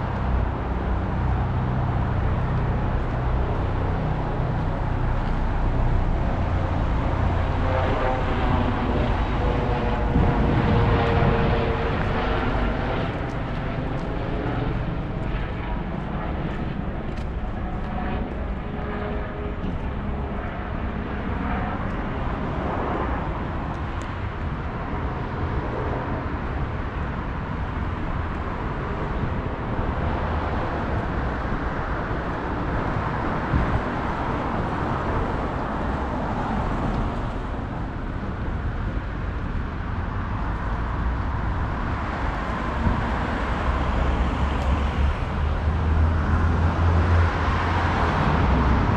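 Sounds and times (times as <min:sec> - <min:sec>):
cars passing on road: 0:00.0 - 0:48.9.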